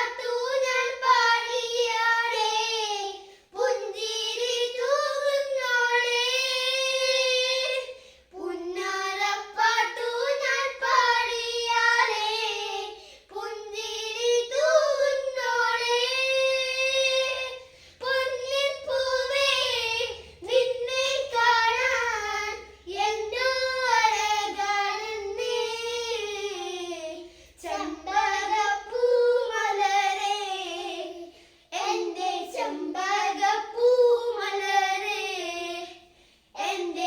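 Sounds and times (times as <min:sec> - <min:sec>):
child singing unaccompanied: 0:00.0 - 0:37.0.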